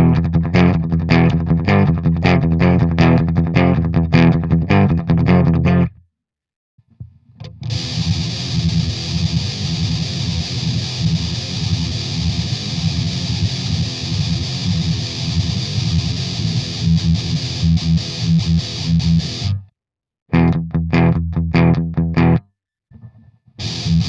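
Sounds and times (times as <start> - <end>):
distorted electric guitar: 0.0 - 6.0, 7.5 - 19.7, 20.3 - 22.4, 23.0 - 24.0.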